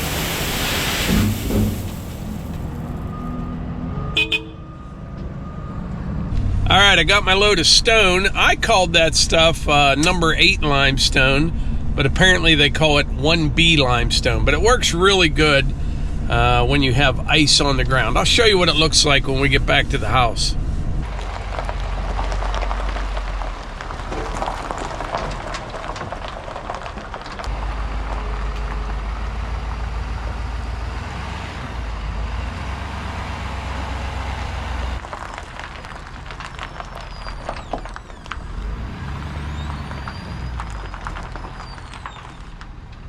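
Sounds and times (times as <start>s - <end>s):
truck engine and road rumble: 0.0s - 43.0s.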